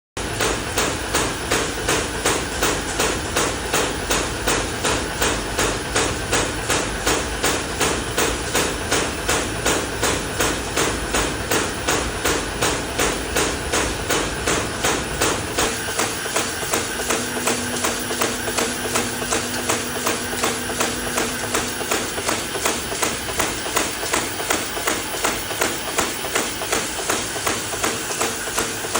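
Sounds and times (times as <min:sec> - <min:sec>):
machine clacking rhythmically: 0:00.2 - 0:28.9
faint motor hum: 0:02.2 - 0:28.9.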